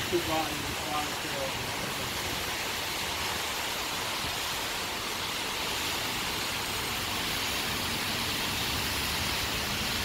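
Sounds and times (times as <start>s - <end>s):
rain on concrete: 0.0s - 10.0s.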